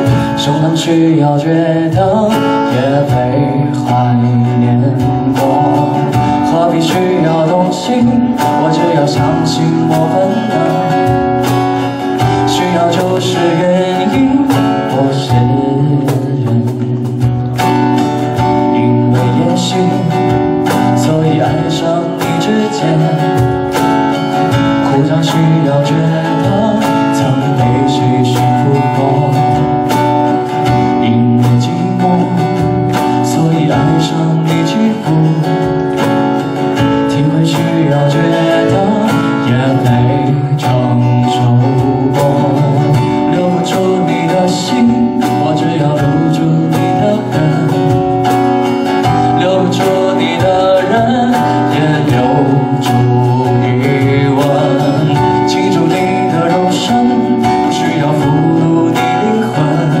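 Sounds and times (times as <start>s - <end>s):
acoustic guitar strumming: 0.0s - 60.0s.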